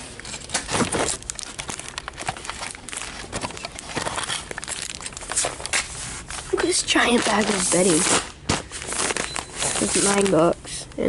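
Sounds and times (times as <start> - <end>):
crinkling handling noise: 0.0 - 11.0.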